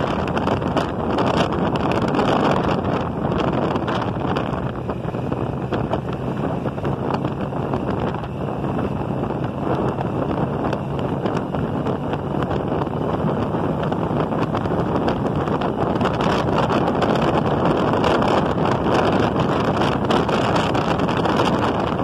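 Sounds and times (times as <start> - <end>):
motorcycle engine: 0.0 - 22.0
road noise: 0.0 - 22.0
wind noise on microphone: 0.0 - 22.0.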